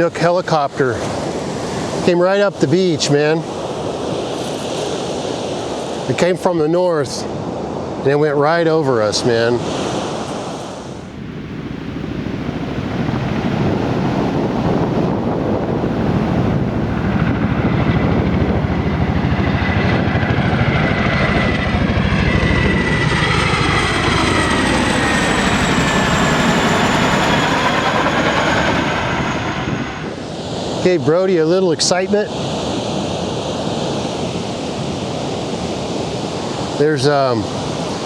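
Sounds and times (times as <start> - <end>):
aircraft engine passing overhead: 0.0 - 38.0.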